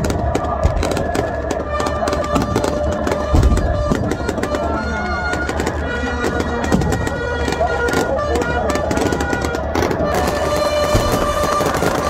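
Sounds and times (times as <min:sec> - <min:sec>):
fireworks crackling and popping: 0:00.0 - 0:12.0
heavy firework bang: 0:00.0 - 0:12.0
loud droning music: 0:00.0 - 0:12.0.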